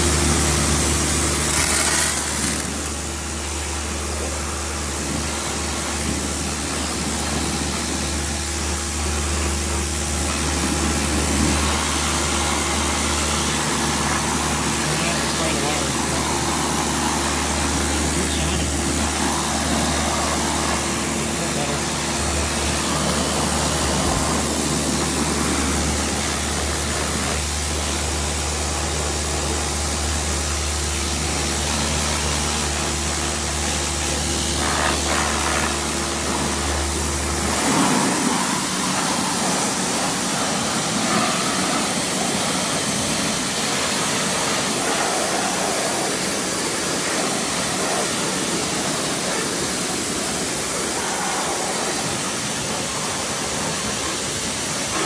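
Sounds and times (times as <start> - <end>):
pressure washer spray hiss: 0.0 - 55.0
washer motor humming: 0.0 - 55.0.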